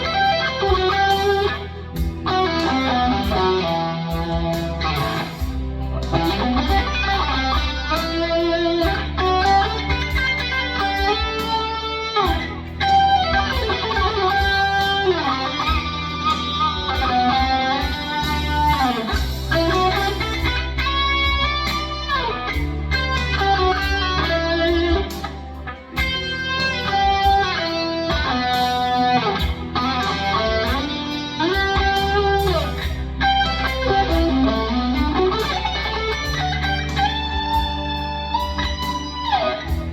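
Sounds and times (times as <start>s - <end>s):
electric lead guitar: 0.0s - 39.9s
low backing track: 0.0s - 39.9s.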